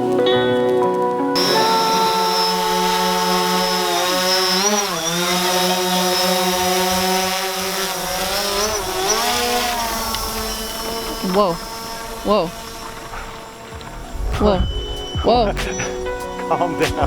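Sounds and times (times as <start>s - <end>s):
drone propellers buzzing: 1.4s - 17.0s.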